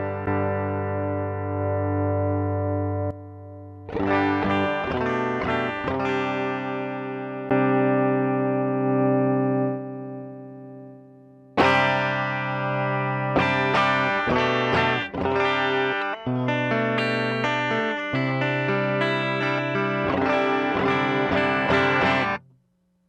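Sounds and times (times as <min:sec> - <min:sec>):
electric guitar chords ringing: 0:00.0 - 0:22.4.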